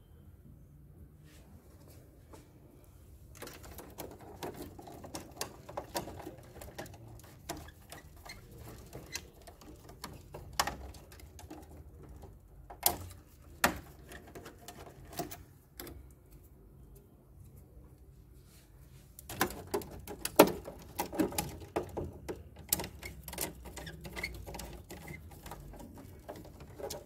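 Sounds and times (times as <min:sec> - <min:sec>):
cable rustle: 0:01.6 - 0:27.0.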